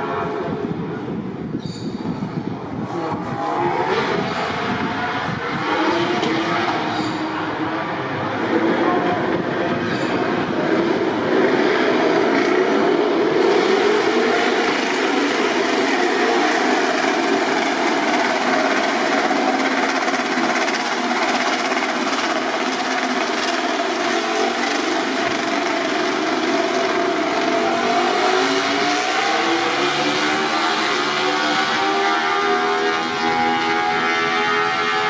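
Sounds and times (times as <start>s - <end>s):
racing motorcycle engines at high revs: 2.6s - 35.0s.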